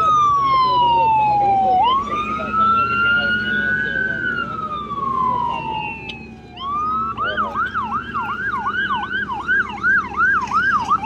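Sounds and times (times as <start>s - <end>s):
police boat siren wailing and yelping: 0.0s - 11.0s.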